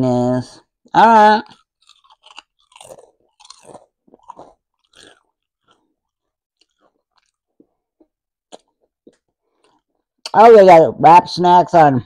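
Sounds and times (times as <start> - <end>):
person chewing crunchy chips: 0.6 - 10.2.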